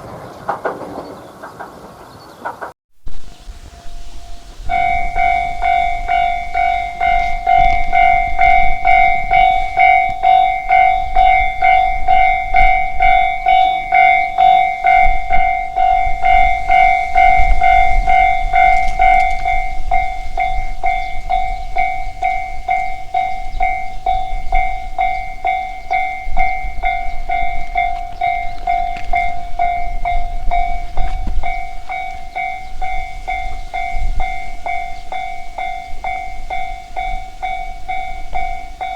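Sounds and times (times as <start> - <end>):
train rumble and rail clatter: 0.0 - 38.9
level crossing warning bell: 3.1 - 38.9.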